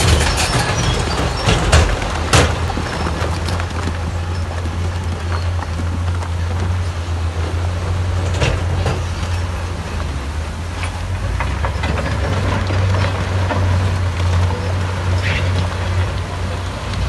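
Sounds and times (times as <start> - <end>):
rock tumbling off truck bed: 0.0 - 16.3
diesel engines humming: 0.0 - 17.0.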